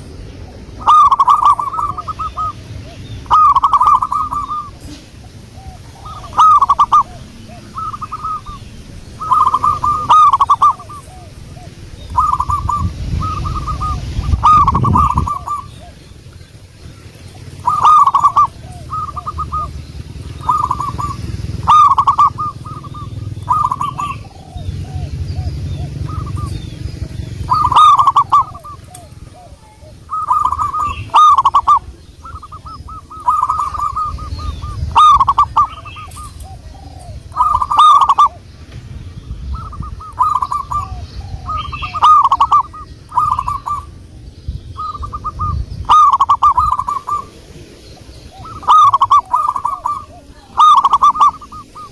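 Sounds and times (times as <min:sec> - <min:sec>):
dove cooing: 0:00.0 - 0:38.7, 0:39.4 - 0:44.2, 0:44.8 - 0:51.9.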